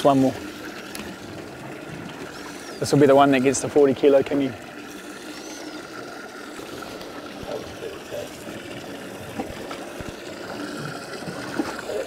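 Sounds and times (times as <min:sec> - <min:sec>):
water lapping against a boat hull: 0:00.0 - 0:12.0.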